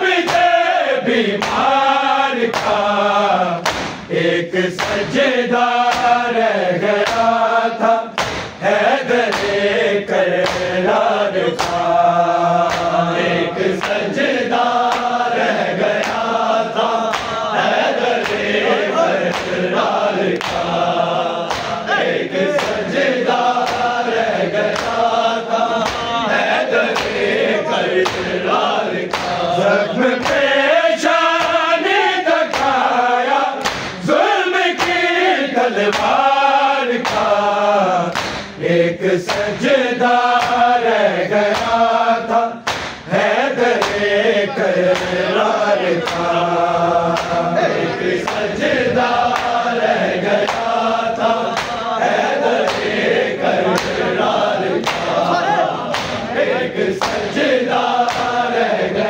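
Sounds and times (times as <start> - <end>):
male voices chanting in chorus: 0.0 - 59.0.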